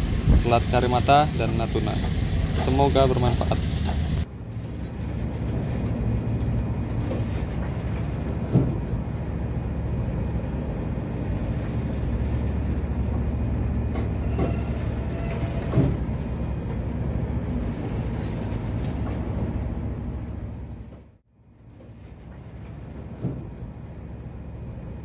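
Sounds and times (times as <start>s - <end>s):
ship engine rumbling: 0.0s - 25.0s.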